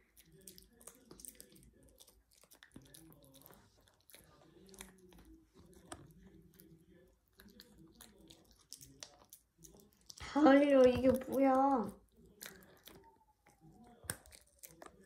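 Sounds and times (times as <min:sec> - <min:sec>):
dog crunching a chew: 0:00.0 - 0:10.2, 0:10.9 - 0:15.0.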